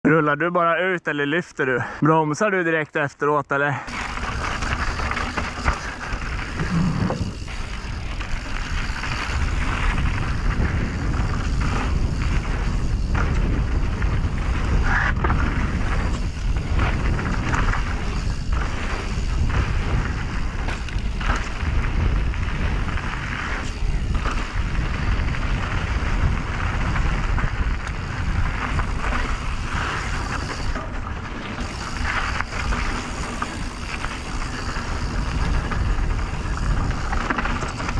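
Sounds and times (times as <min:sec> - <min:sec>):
bike knocks and rattles: 0:03.9 - 0:37.9
bike tyre noise: 0:03.9 - 0:37.9
wind buffeting microphone: 0:04.0 - 0:37.9.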